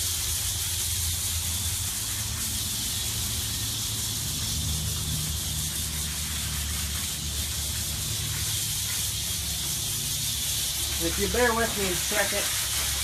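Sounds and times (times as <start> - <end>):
hose nozzle spraying water: 0.0 - 13.0.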